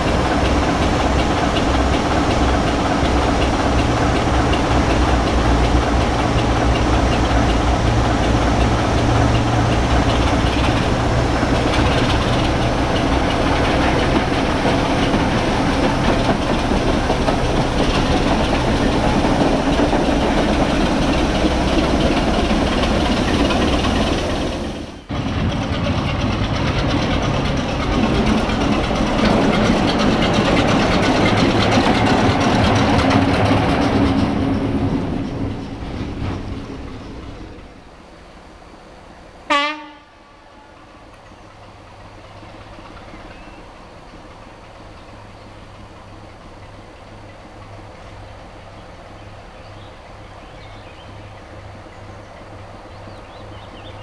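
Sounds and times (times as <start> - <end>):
diesel locomotive engine running: 0.0 - 54.0
diesel locomotive idling: 0.0 - 54.0.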